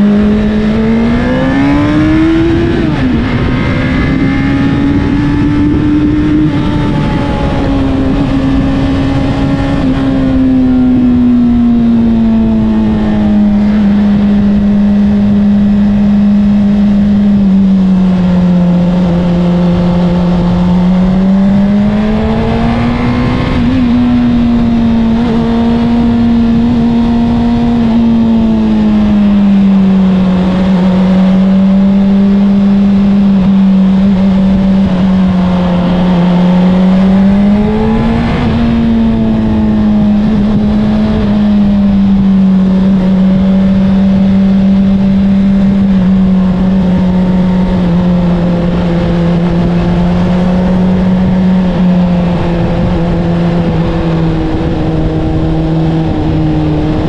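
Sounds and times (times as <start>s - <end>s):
motorcycle engine at part throttle: 0.0s - 57.0s.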